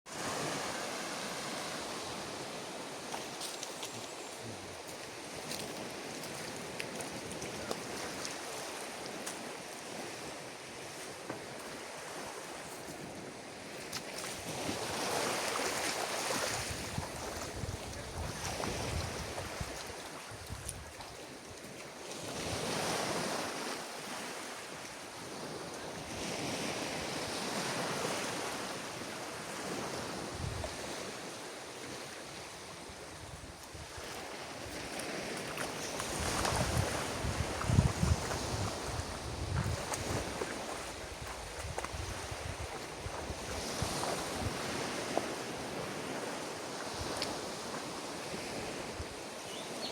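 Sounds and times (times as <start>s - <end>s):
ocean waves breaking on shore: 0.1s - 49.9s.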